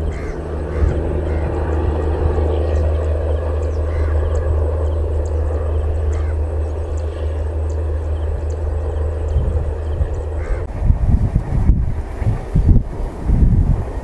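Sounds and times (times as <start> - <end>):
electric locomotive passing: 0.0 - 14.0.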